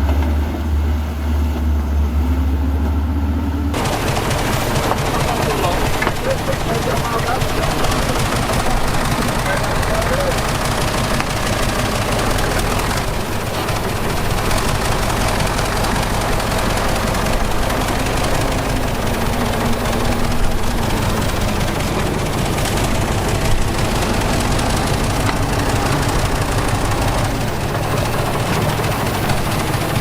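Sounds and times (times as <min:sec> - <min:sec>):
diesel machinery engine hum: 0:00.0 - 0:30.0.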